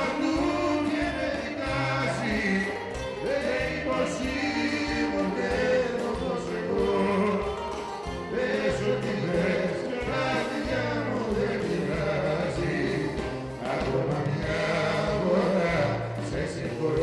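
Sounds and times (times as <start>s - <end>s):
bouzouki and band: 0.0s - 17.0s
men singing into microphones: 0.0s - 17.0s.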